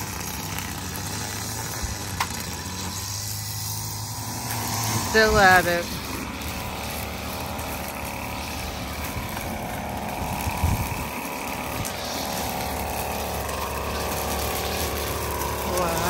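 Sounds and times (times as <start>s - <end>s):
machine engine running: 0.0s - 16.0s.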